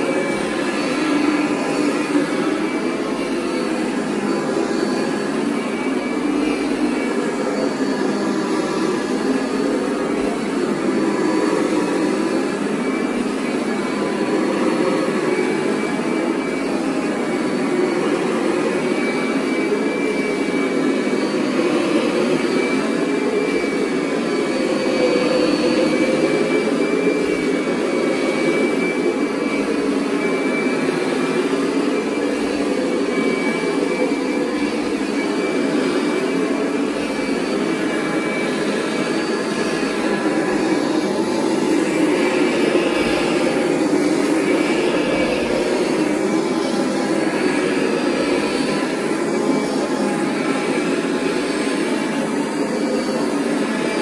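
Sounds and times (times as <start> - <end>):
vacuum motor drone with whine: 0.0 - 54.0.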